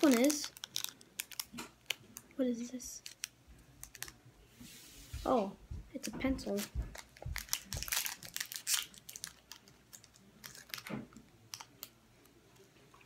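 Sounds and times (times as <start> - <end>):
plastic candy wrapper crackling: 0.0 - 4.2, 6.0 - 12.4.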